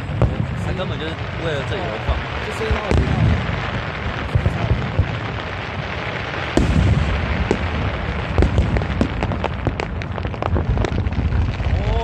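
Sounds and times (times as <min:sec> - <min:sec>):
distant fireworks rumble: 0:00.0 - 0:12.0
firework cracks and pops: 0:00.0 - 0:12.0
loud firework boom: 0:00.0 - 0:12.0.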